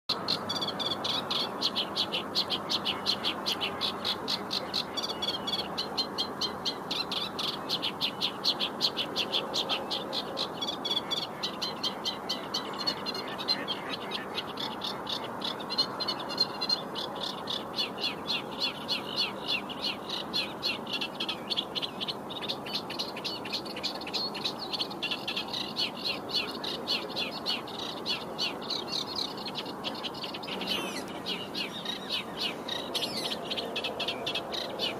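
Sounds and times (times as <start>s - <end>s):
reed warbler singing: 0.1s - 34.9s
steady background noise: 0.1s - 34.9s.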